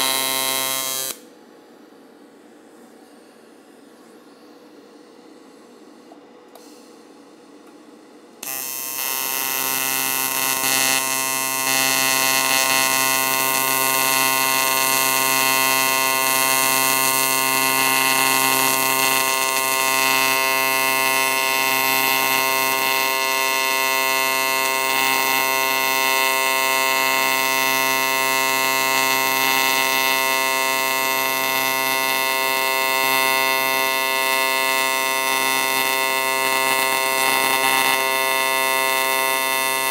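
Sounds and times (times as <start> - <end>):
welding arc buzzing: 0.0 - 1.3, 8.4 - 39.9.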